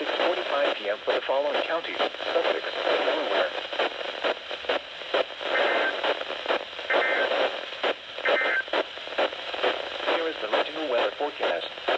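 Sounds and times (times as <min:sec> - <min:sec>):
crackling radio static: 0:00.0 - 0:11.9.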